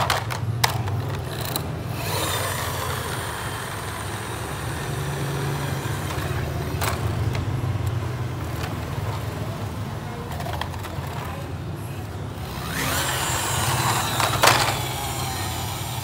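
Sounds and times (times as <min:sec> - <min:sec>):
toy truck rolling on tile floor: 0:00.0 - 0:16.0.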